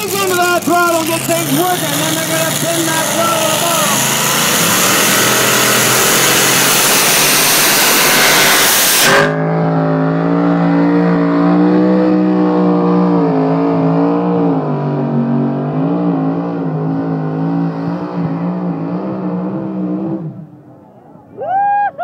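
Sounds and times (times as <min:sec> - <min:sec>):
tractor engine roaring: 0:00.0 - 0:21.3.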